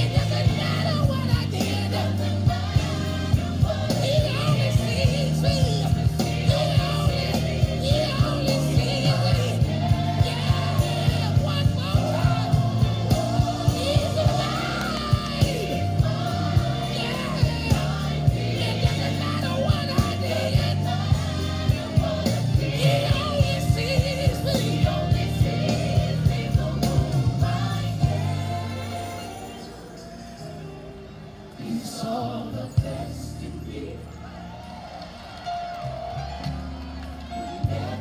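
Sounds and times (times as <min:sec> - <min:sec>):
gospel singer with band: 0:00.0 - 0:34.8, 0:35.4 - 0:38.0.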